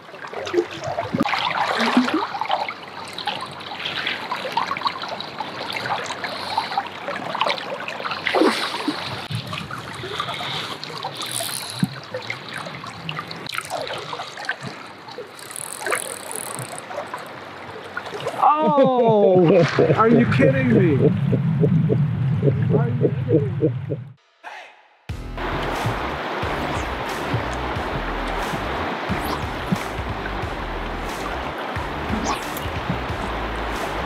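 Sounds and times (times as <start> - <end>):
river water splashing against boat: 0.0 - 20.0, 25.4 - 34.0.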